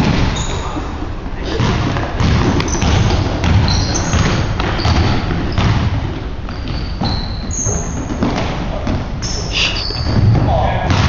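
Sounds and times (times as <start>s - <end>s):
basketball bouncing: 0.0s - 0.8s, 1.4s - 11.0s
sneaker squeaks: 0.0s - 11.0s.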